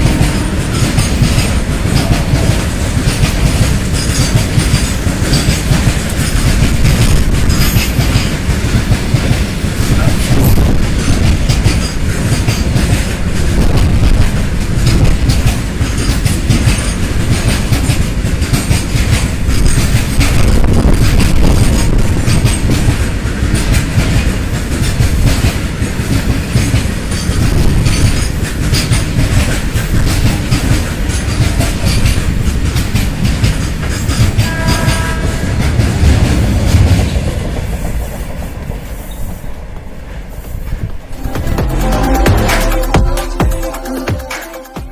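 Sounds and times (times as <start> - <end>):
wheels clattering over rail joints: 0.0 - 41.1
freight train rumbling past: 0.0 - 44.9.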